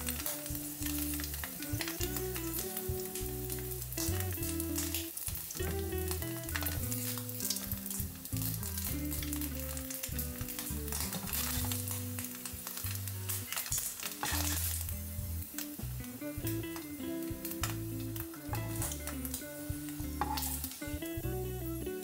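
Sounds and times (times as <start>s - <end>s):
background music: 0.0s - 22.0s
food sizzling in a pan: 0.0s - 22.0s.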